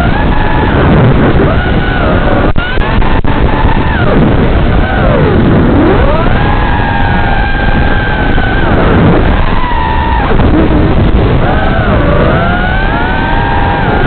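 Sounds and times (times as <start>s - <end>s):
drone motors whining: 0.0s - 14.0s
heavy rumble: 0.0s - 14.0s.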